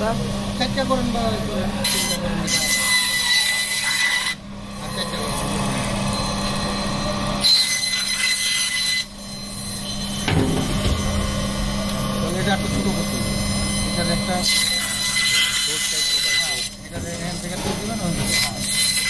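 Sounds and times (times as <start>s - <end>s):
band saw motor humming: 0.0s - 19.0s
saw blade cutting fish: 1.8s - 19.0s.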